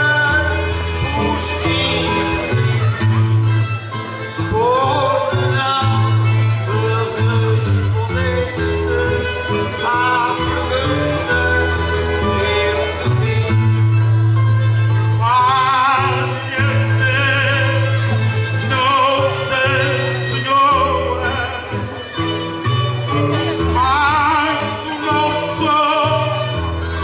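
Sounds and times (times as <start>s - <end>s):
man singing with vibrato: 0.0s - 27.0s
plucked string instruments strumming: 0.0s - 27.0s.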